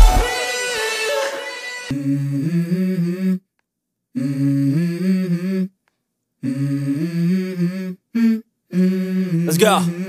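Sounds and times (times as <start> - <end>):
a cappella humming vocals: 0.0 - 3.5, 4.1 - 10.0.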